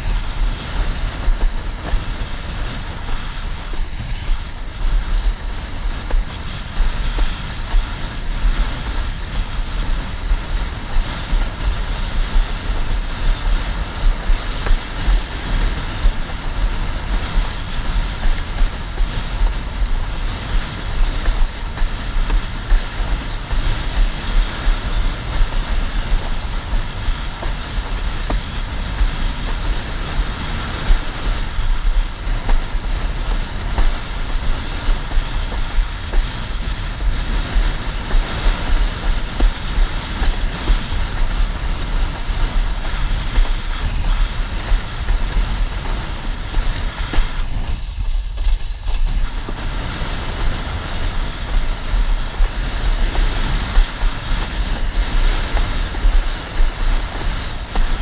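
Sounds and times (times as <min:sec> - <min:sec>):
water rushing and slapping: 0:00.0 - 0:58.0
wind buffeting microphone: 0:00.0 - 0:58.0.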